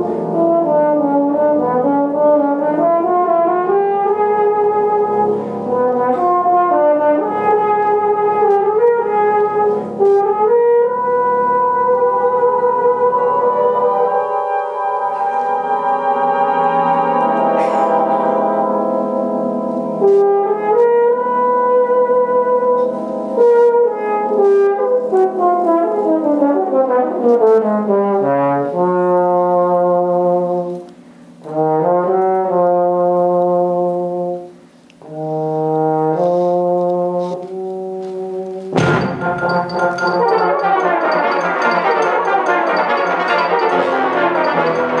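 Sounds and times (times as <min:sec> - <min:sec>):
brass band playing chords: 0:00.0 - 0:30.5, 0:31.5 - 0:45.0.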